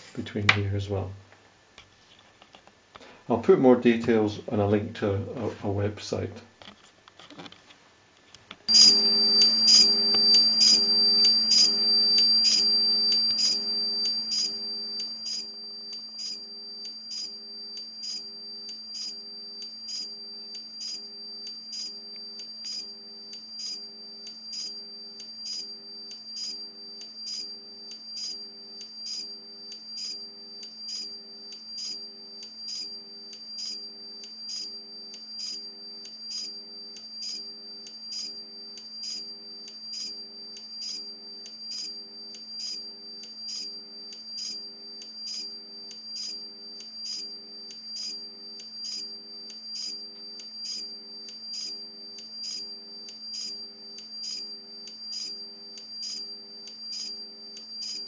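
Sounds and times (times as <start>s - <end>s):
regular pulsing tick: 8.1s - 58.0s
high-pitched electrical whine: 8.6s - 58.0s.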